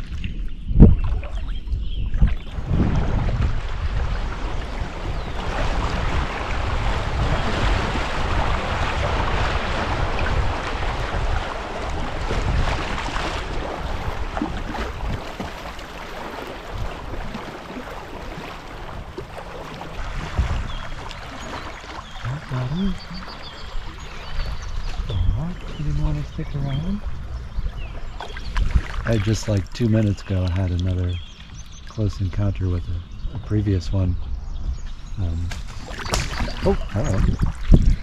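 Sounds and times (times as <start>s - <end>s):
river water splashing against kayak: 0.0s - 32.1s, 35.4s - 38.0s
wind buffeting microphone: 0.0s - 38.0s.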